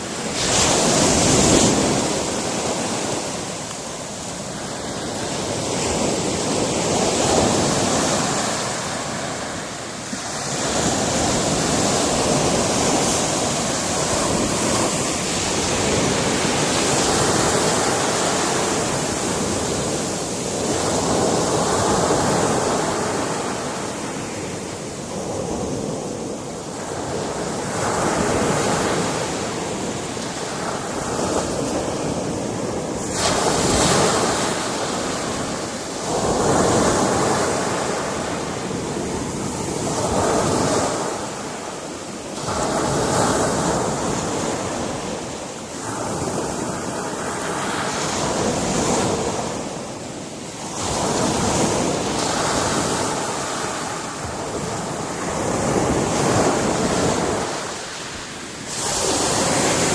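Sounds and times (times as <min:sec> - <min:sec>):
waves crashing on rocky shore: 0:00.0 - 0:59.9.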